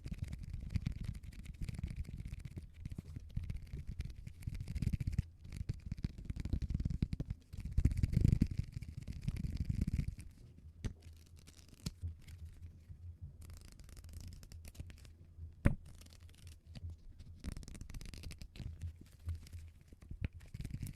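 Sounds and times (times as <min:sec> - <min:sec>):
scratching on a notebook: 0:00.0 - 0:12.8, 0:13.4 - 0:15.2, 0:15.8 - 0:20.9
low steady hum: 0:00.0 - 0:20.9.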